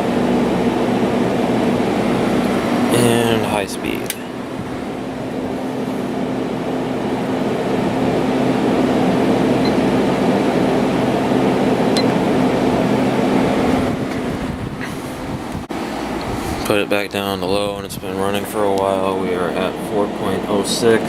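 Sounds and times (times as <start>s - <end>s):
air conditioner running: 0.0s - 21.0s.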